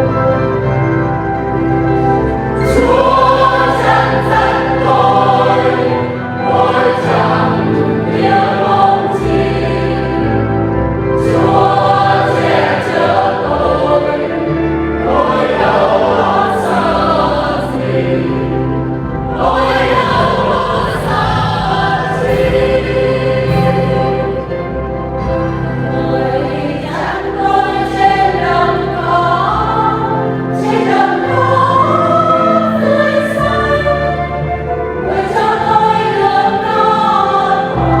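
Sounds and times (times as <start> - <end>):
church choir singing a hymn: 0.0 - 38.0
sustained organ: 0.0 - 38.0.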